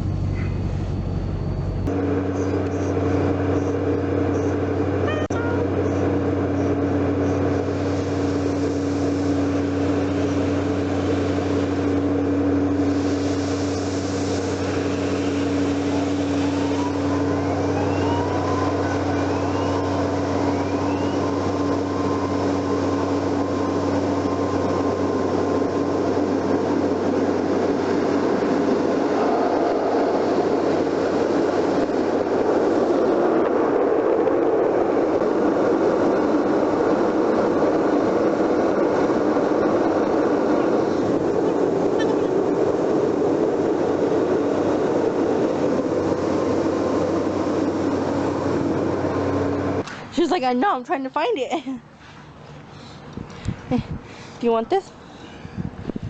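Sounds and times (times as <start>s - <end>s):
car engine hum: 0.0s - 33.4s, 34.4s - 50.3s
road noise: 0.0s - 56.0s.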